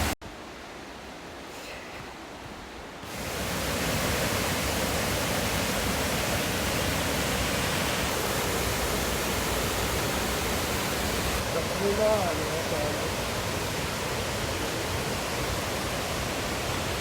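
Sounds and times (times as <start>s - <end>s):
waterfall rushing: 3.0s - 17.0s.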